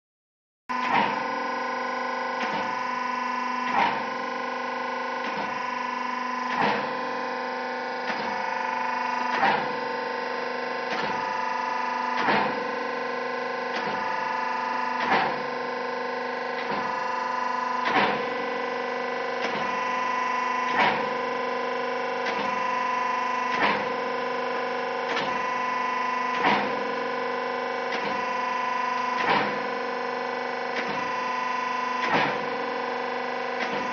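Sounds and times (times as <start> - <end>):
machine whining: 0.7 - 33.9.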